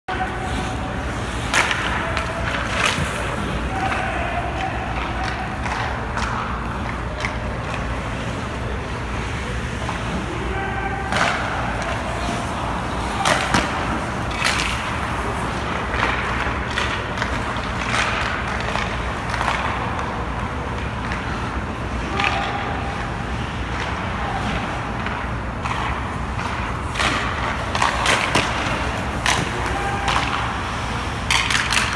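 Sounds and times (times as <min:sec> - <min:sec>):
hockey sticks cracking pucks: 0:00.1 - 0:31.9.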